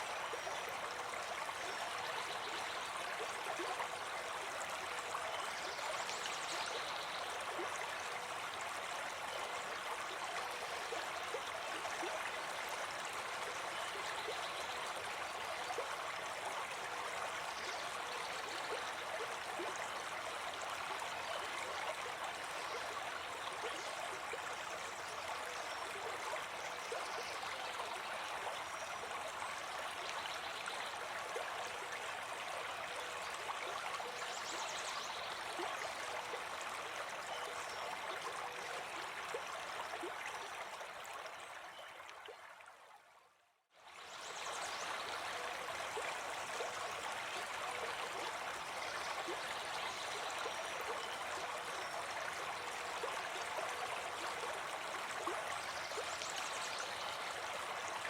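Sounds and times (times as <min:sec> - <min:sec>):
brook babbling over stones: 0:00.0 - 0:58.0.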